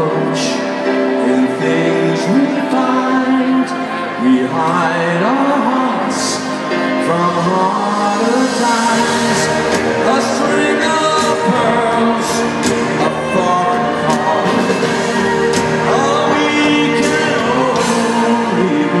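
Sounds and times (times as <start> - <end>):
live piano ballad with band: 0.0 - 19.0
man singing: 0.0 - 19.0.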